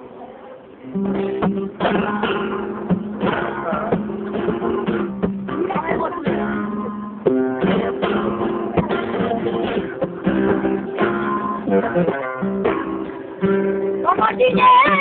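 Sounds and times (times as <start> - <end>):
flamenco guitar strumming: 0.8 - 15.0.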